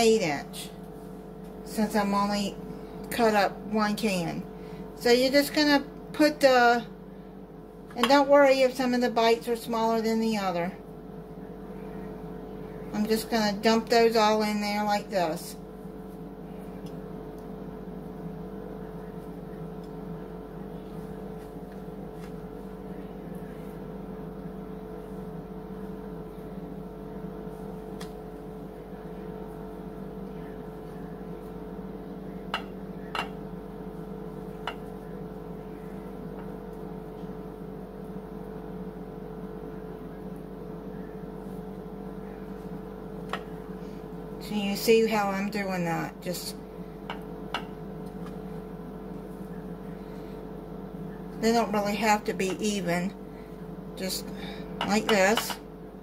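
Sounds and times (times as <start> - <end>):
appliance humming: 0.0 - 56.0.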